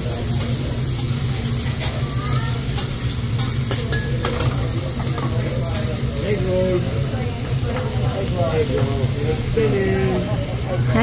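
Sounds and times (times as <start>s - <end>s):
rice sizzling on a steel griddle: 0.0s - 11.0s.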